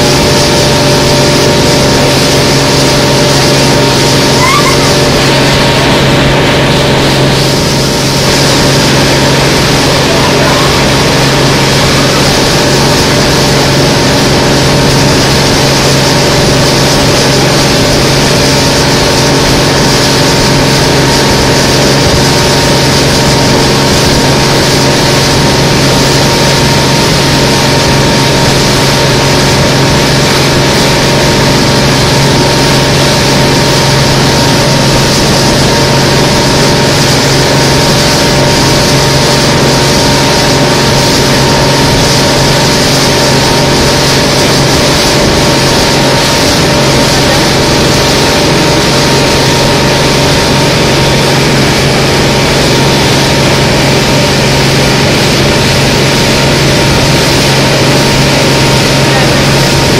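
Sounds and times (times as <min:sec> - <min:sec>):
boat engine humming: 0:00.0 - 0:59.9
water and wind hiss: 0:00.0 - 0:59.9.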